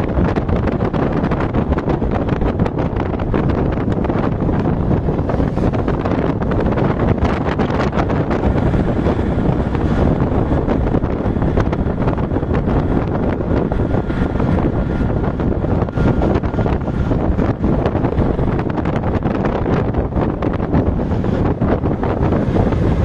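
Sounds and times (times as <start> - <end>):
auto-rickshaw engine: 0.0 - 23.0
road noise: 0.0 - 23.0
wind buffeting microphone: 0.0 - 23.0.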